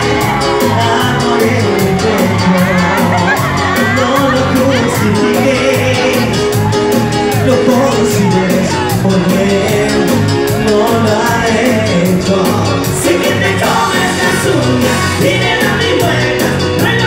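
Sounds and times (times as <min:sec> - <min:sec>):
drum beat: 0:00.0 - 0:17.0
man singing: 0:00.0 - 0:17.0
pop song through loudspeakers: 0:00.0 - 0:17.0.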